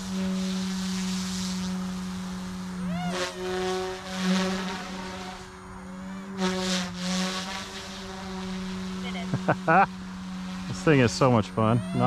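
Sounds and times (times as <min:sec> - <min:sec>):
rc helicopter motor whine: 0:00.0 - 0:12.0.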